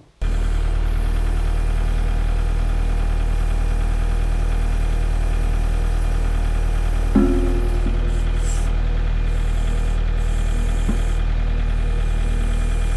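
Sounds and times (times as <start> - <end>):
tractor diesel engine running: 0.2 - 12.9.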